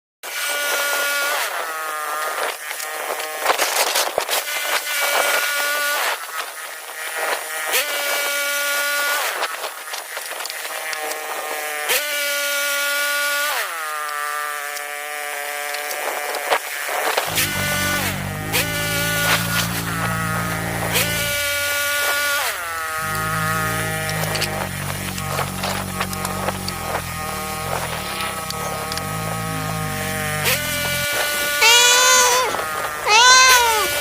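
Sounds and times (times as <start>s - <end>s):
rasping sawing: 0.3s - 34.0s
saw motor whine: 4.3s - 34.0s.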